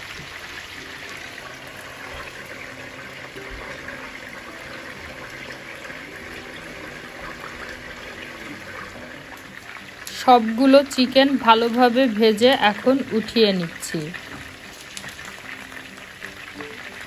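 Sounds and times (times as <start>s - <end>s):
chicken frying in oil sizzling: 0.0s - 17.0s.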